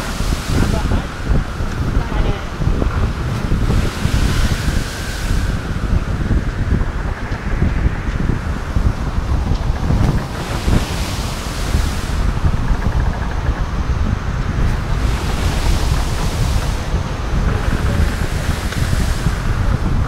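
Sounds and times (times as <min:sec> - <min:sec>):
ocean surf breaking: 0:00.0 - 0:20.0
wind rumble on microphone: 0:00.0 - 0:20.0.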